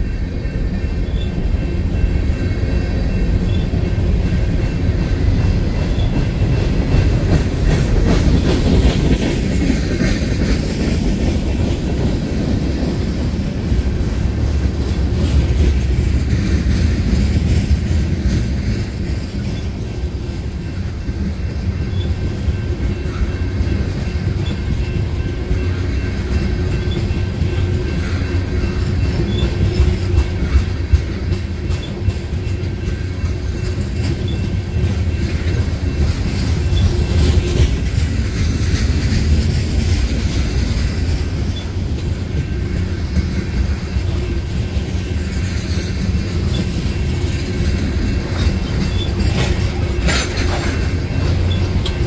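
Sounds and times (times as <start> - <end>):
freight train rumbling past: 0.0 - 52.0
wheels clacking over rail joints: 0.0 - 52.0.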